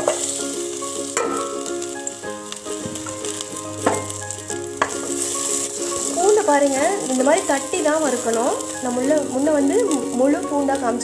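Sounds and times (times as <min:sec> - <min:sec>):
garlic sizzling in oil: 0:00.0 - 0:11.0.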